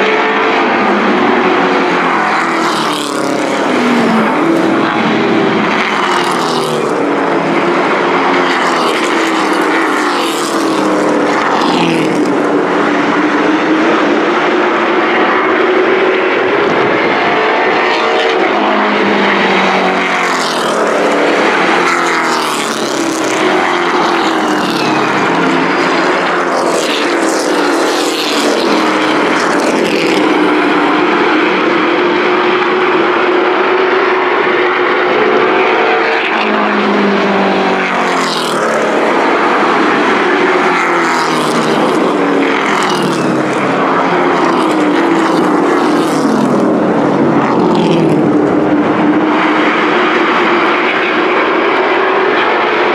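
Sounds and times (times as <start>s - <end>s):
race truck engines: 0.0s - 52.9s.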